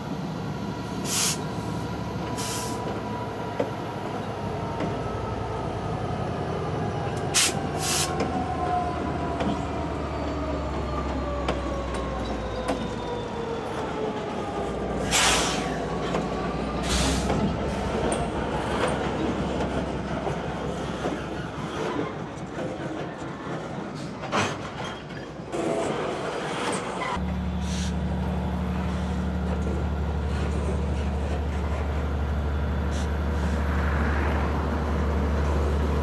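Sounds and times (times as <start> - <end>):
locomotive rumble: 0.0 - 36.0
freight cars rolling: 6.5 - 36.0.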